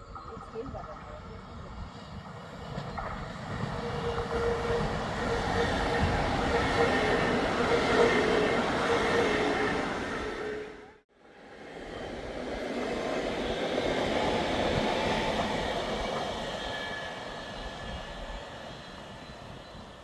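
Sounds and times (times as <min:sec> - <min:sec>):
train wheels rumbling on rails: 0:00.0 - 0:10.9, 0:11.6 - 0:20.0.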